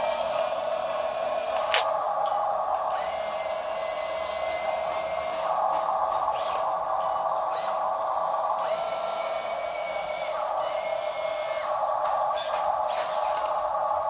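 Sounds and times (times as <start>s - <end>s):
toy electric motors whining: 0.0s - 14.0s.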